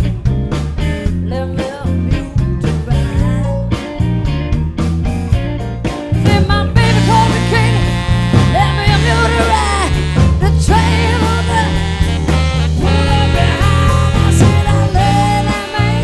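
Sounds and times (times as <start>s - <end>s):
blues-rock band playing: 0.0s - 16.0s
electric guitar lead: 0.0s - 16.0s.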